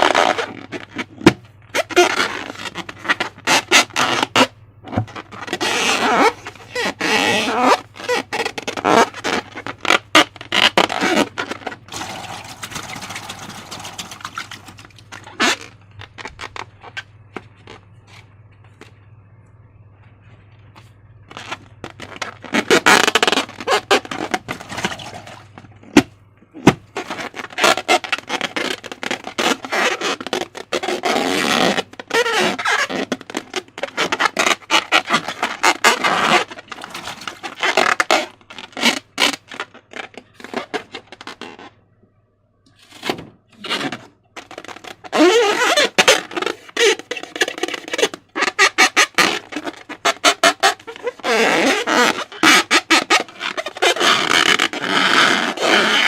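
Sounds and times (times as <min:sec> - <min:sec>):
balloon rubber squeaks: 0:00.0 - 0:18.3, 0:21.2 - 0:41.8, 0:42.7 - 0:56.0.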